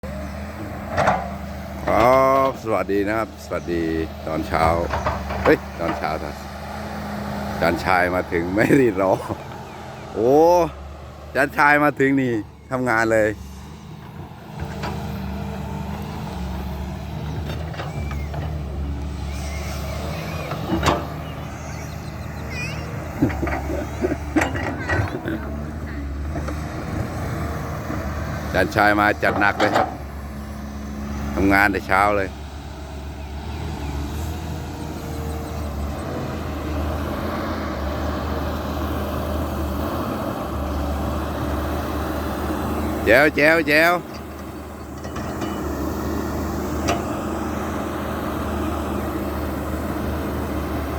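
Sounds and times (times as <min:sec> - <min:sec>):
diesel engine low rumble: 0:00.0 - 0:50.9.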